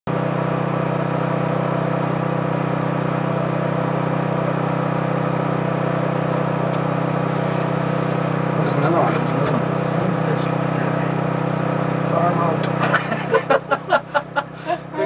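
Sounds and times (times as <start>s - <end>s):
steady machine hum: 0.1s - 15.0s.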